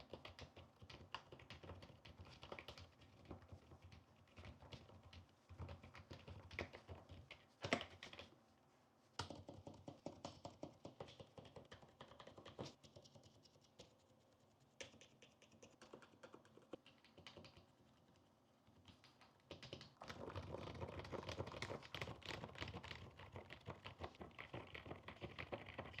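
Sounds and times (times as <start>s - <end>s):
typing on a soft keyboard: 0.0s - 8.4s, 9.2s - 26.0s.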